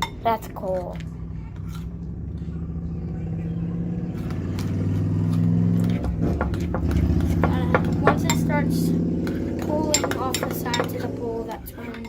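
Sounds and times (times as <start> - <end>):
low motor hum: 0.7 - 12.0.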